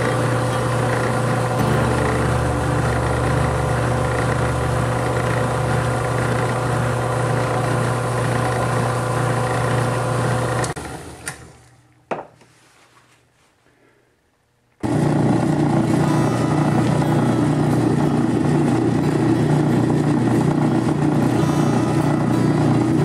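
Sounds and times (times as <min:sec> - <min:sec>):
saw motor humming: 0:00.0 - 0:10.8, 0:14.8 - 0:23.0.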